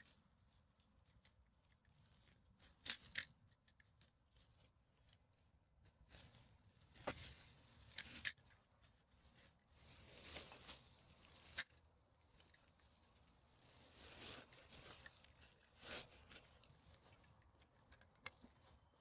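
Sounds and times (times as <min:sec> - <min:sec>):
rustling and crackling debris: 0:00.0 - 0:19.0.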